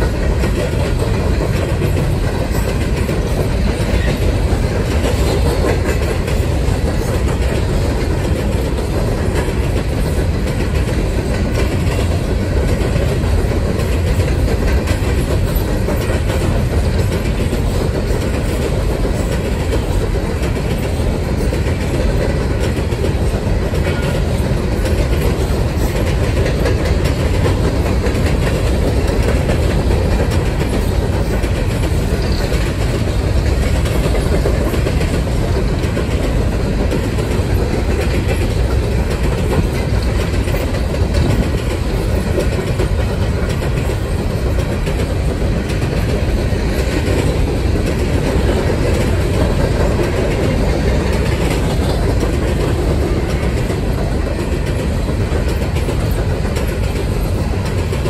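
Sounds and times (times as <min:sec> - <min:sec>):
freight train cars rolling past: 0:00.0 - 0:58.0
wheels clicking over rail: 0:00.0 - 0:58.0.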